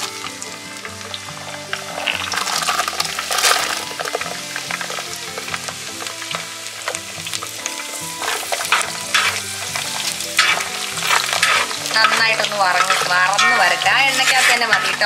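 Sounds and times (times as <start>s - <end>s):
garlic sizzling in oil: 0.0s - 15.0s
spoon scraping pan: 0.0s - 15.0s.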